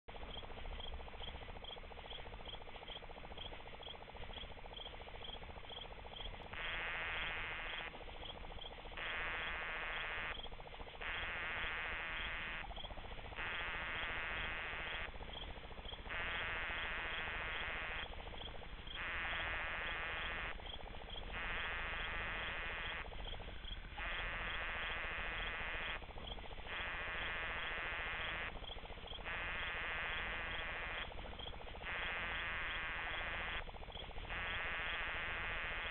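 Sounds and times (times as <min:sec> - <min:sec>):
cricket chirping: 0:00.1 - 0:35.9
katydids buzzing: 0:00.1 - 0:35.9.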